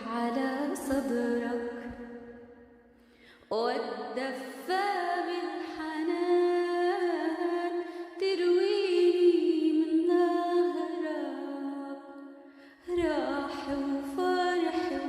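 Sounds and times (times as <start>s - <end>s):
woman singing a hymn: 0.0s - 2.1s, 3.5s - 12.2s, 12.8s - 15.0s.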